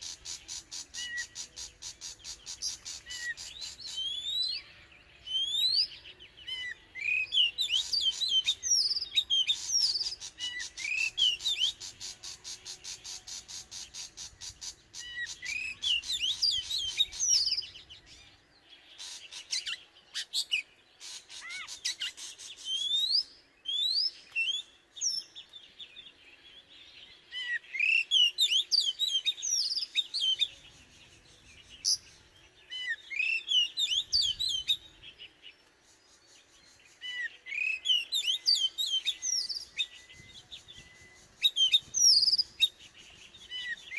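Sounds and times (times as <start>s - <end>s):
bird whistling song: 0.0s - 43.9s.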